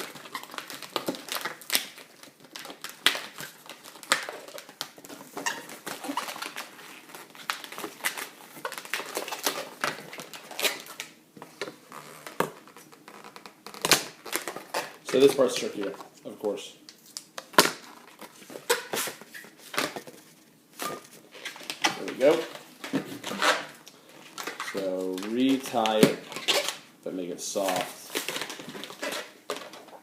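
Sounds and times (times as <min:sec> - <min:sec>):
balloons squeaking and crinkling: 0:00.0 - 0:16.2, 0:17.5 - 0:26.9, 0:27.5 - 0:30.0.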